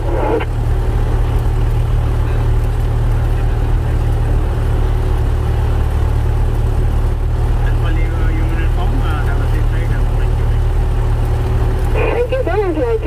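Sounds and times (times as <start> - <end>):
propeller plane engine running: 0.0 - 13.0.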